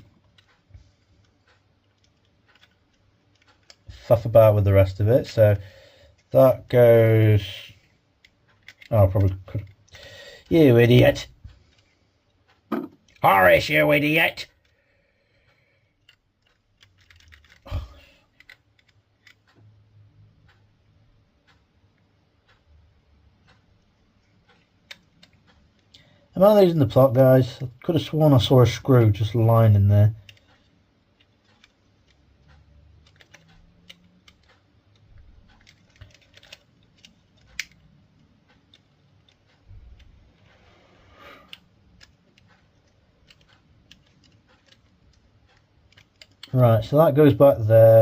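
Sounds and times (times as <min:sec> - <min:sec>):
small parts clicking and tapping: 0:00.0 - 0:48.0.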